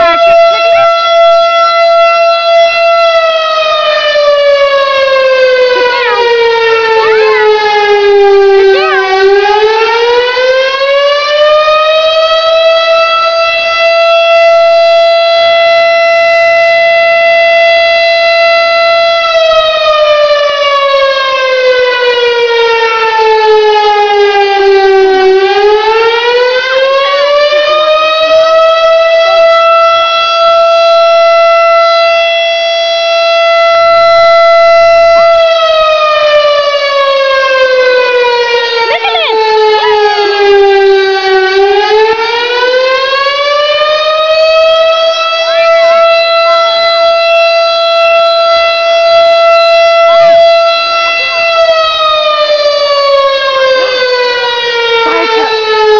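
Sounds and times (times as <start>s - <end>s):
fire siren winding up and down: 0.0s - 55.9s.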